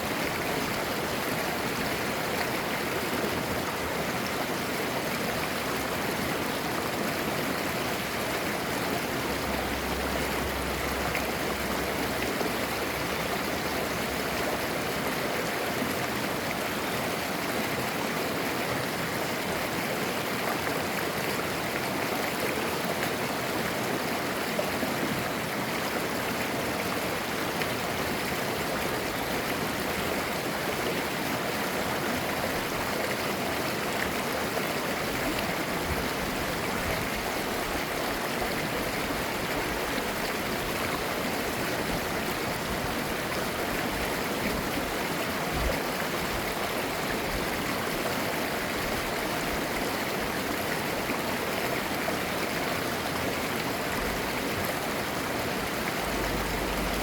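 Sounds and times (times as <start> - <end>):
stream flowing and babbling: 0.0 - 57.0.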